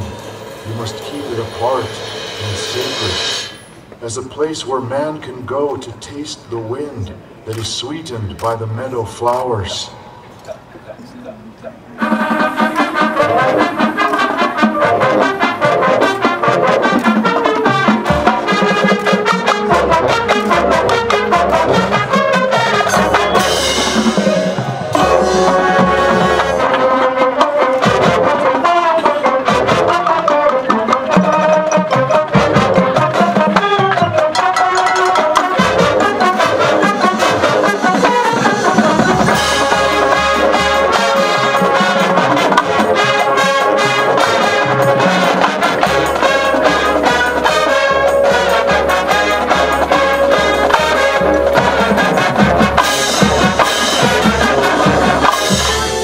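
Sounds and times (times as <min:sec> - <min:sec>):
brass chords: 0:00.0 - 0:04.0, 0:11.8 - 0:56.0
marching percussion: 0:00.0 - 0:05.2, 0:11.8 - 0:56.0.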